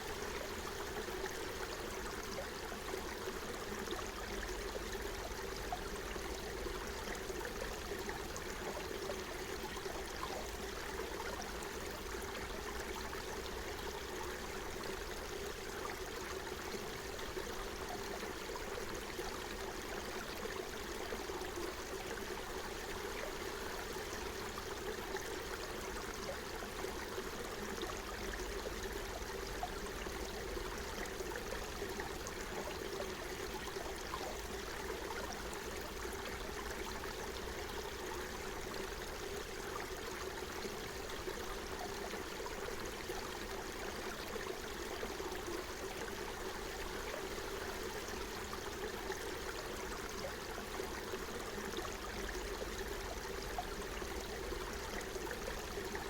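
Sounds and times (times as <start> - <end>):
stream gurgling over stones: 0.0 - 56.0.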